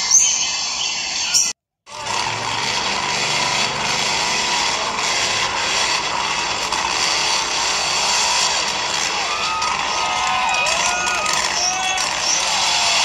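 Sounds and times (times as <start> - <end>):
electric motor and gears whirring: 0.0 - 13.0.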